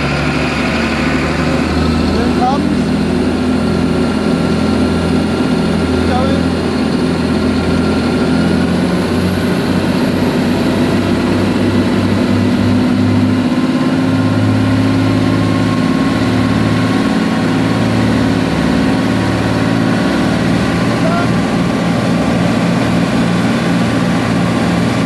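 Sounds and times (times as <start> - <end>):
boat engine running hard: 0.0 - 25.0.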